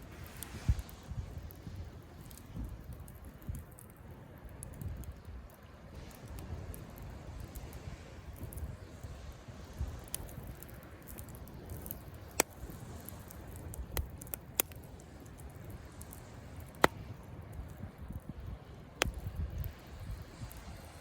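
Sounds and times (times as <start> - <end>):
campfire crackling: 0.0 - 21.0
sharp fire pops: 0.0 - 21.0.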